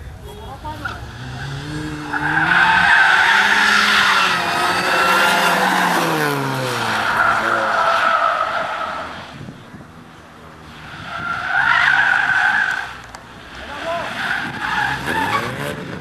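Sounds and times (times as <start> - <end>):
car engine revving: 0.6 - 16.0.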